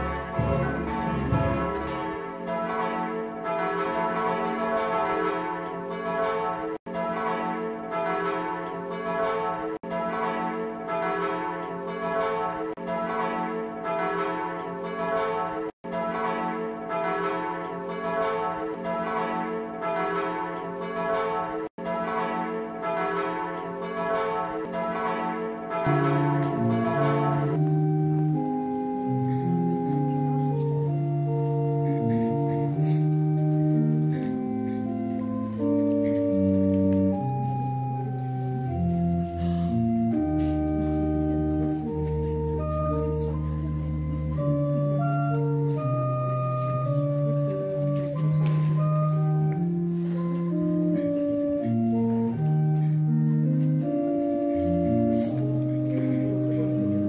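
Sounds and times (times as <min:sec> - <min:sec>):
slow music with held notes: 0:00.0 - 0:13.7, 0:16.0 - 0:57.0
church bells ringing: 0:00.0 - 0:57.0.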